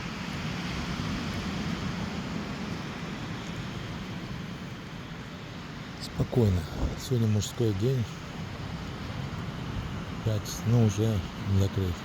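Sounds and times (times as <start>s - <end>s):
sea surf rushing: 0.0s - 12.0s.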